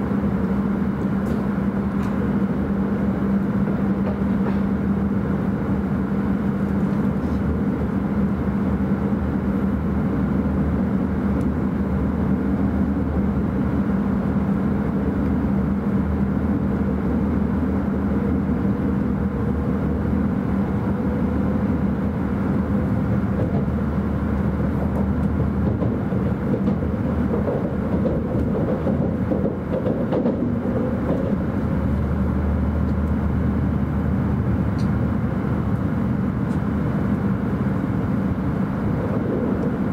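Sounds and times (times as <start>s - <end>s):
train cabin rumble: 0.0s - 39.9s.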